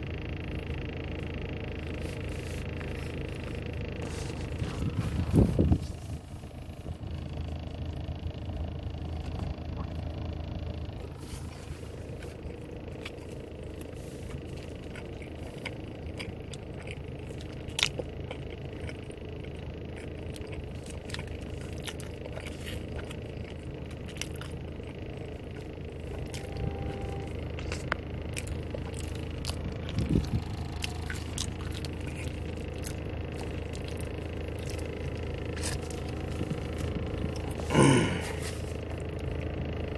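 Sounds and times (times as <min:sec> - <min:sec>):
car cabin hum: 0:00.0 - 0:39.9.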